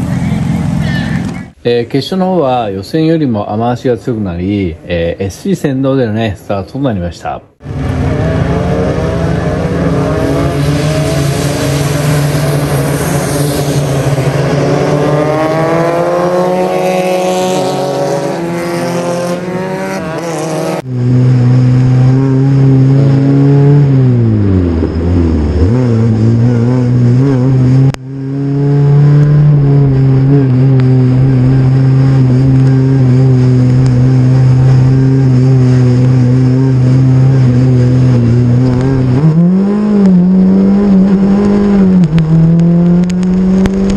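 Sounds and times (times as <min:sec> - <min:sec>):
race car engines passing: 0:00.0 - 0:02.8, 0:07.6 - 0:43.9.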